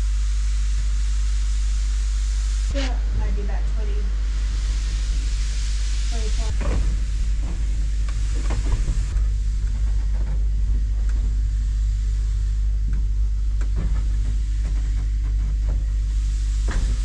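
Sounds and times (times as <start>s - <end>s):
train rumbling in motion: 0.0s - 17.0s.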